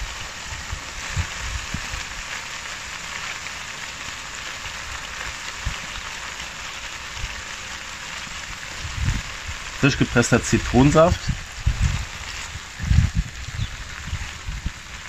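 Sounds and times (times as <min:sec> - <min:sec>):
meat sizzling: 0:00.0 - 0:15.0.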